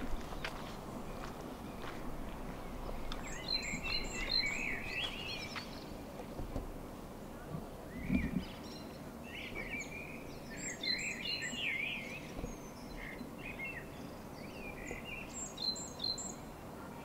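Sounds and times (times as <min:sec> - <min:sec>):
low background hum: 0:00.0 - 0:17.0
songbirds singing: 0:00.0 - 0:17.0.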